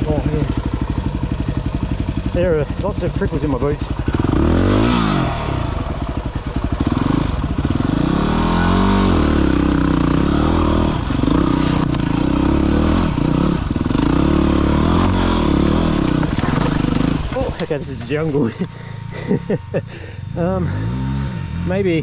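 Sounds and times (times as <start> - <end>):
dirt bike engine revving: 0.0 - 21.8.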